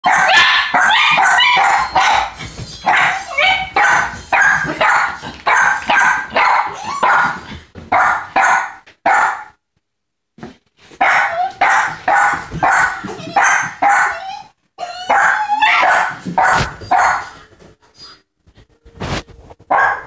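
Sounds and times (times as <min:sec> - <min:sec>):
small dogs barking excitedly: 0:00.0 - 0:09.6, 0:11.0 - 0:17.4, 0:19.7 - 0:20.0.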